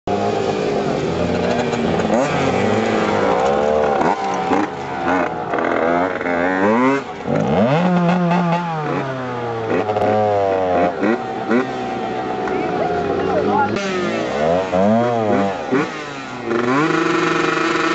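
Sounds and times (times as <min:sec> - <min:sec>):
dirt bike engine revving: 0:00.1 - 0:17.9.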